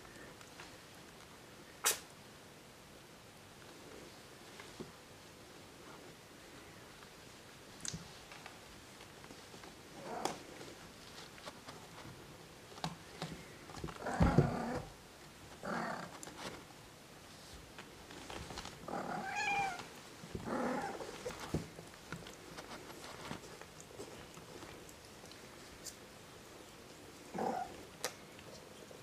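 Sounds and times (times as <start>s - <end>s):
small clicks and rustles of bedding: 0.0s - 1.4s, 3.5s - 29.0s.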